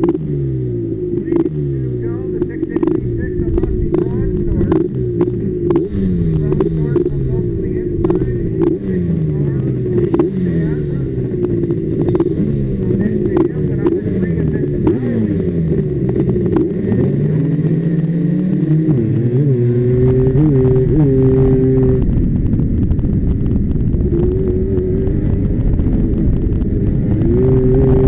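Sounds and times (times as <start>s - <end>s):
quad engine revving: 0.0s - 28.0s
rushing wind noise: 2.2s - 28.0s.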